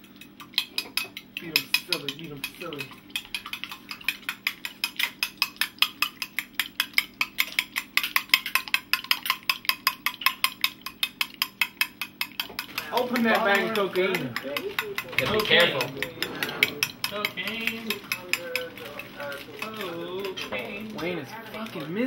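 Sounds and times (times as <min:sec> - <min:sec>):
fork beating eggs in glass bowl: 0:00.0 - 0:22.0.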